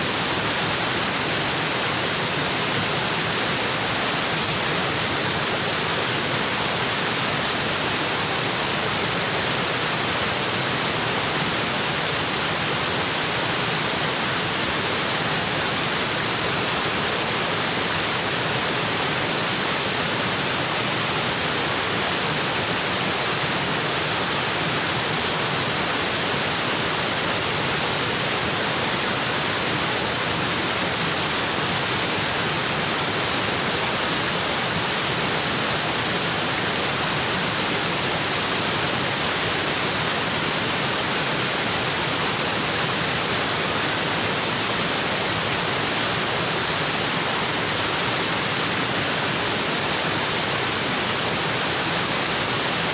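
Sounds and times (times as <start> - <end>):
waterfall onto rocks: 0.0 - 52.9.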